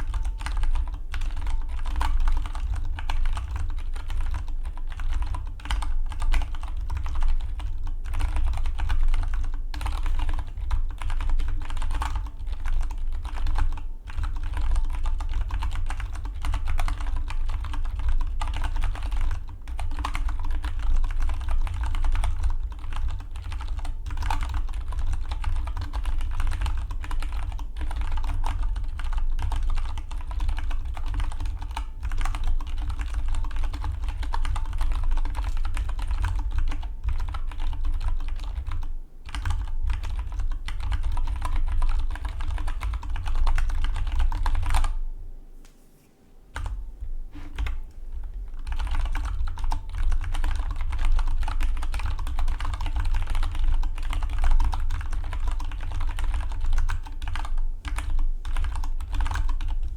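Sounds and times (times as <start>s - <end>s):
mechanical keyboard typing: 0.0s - 45.0s, 48.6s - 59.9s.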